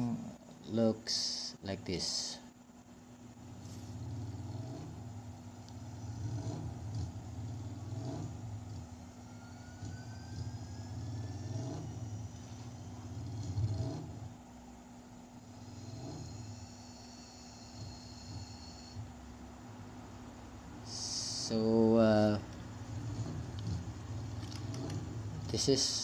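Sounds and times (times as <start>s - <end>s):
faint rising whine: 0.0s - 26.0s
steady low hum: 0.0s - 26.0s
vehicle engine droning: 2.8s - 26.0s.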